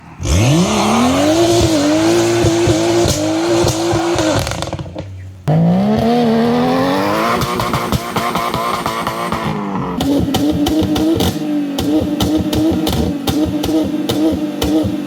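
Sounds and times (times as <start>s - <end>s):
car engines accelerating hard: 0.0s - 15.0s.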